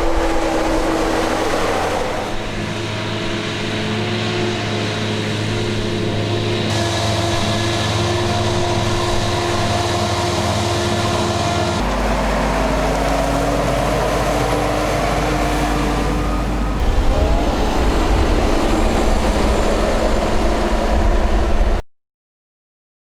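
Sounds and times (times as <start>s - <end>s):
heavy diesel machinery under load: 0.0s - 21.8s.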